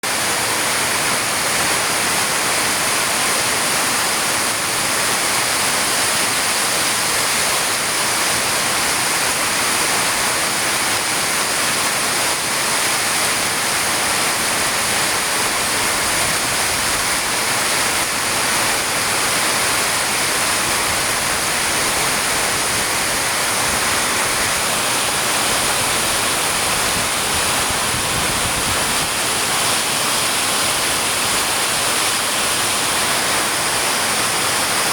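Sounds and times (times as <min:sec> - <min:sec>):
heavy rain hiss: 0:00.0 - 0:34.9.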